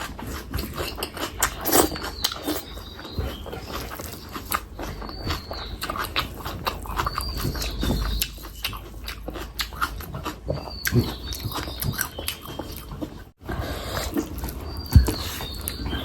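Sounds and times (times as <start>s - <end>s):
wet chewing and mouth clicks: 0.0s - 16.0s.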